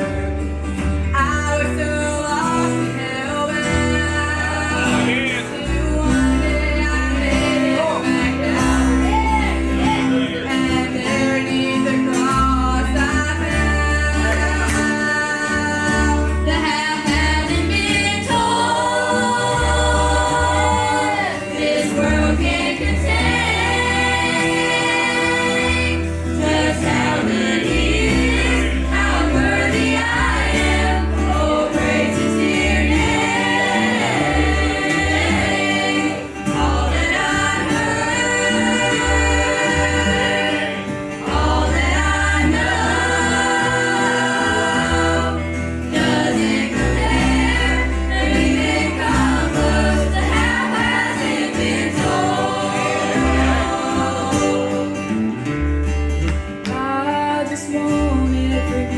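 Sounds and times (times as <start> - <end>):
group singing gospel song: 0.0 - 55.7
instrumental backing with bass: 0.0 - 58.9.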